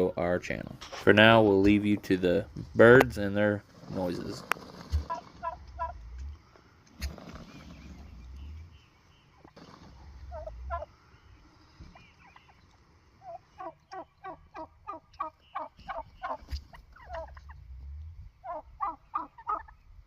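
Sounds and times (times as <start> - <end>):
turkeys calling: 0.8 - 19.9.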